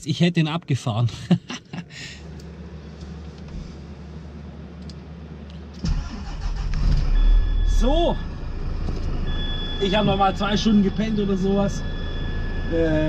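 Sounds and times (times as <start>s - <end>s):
low steady hum: 0.0s - 13.0s
truck diesel engine rumbling: 2.0s - 13.0s.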